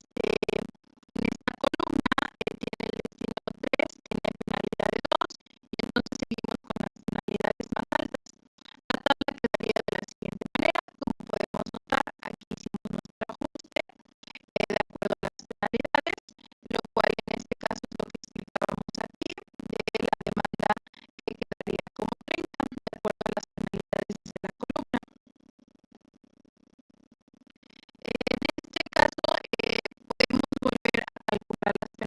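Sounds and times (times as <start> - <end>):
choppy stuttering music: 0.2 - 8.2, 8.9 - 25.0, 27.9 - 32.0.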